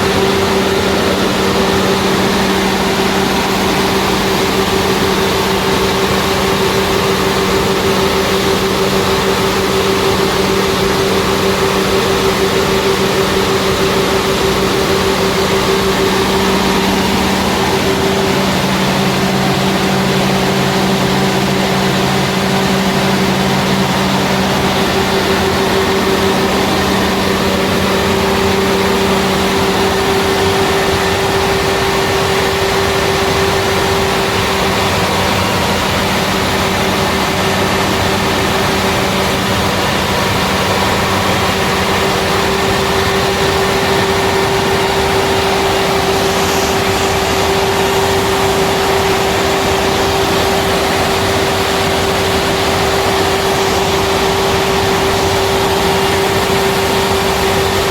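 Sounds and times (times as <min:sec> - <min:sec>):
diesel engine humming: 0:00.0 - 0:57.9
low droning note: 0:00.0 - 0:57.9.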